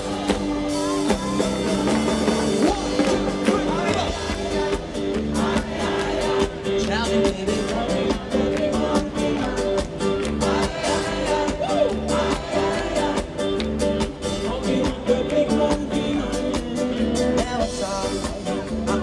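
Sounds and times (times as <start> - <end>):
electric guitar: 0.0 - 19.0
person singing: 0.0 - 19.0
steady drum beat: 0.0 - 19.0.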